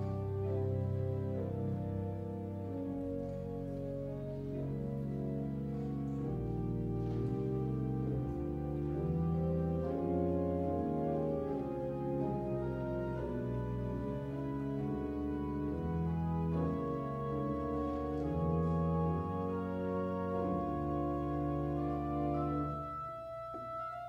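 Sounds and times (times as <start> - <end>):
slow organ-style keyboard chords: 0.0 - 24.0.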